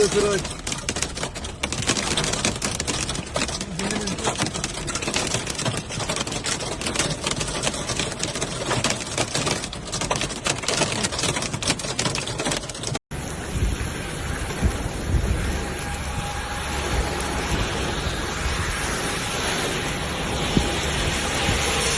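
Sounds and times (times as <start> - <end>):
heavy rain on hard surface: 0.0 - 21.9.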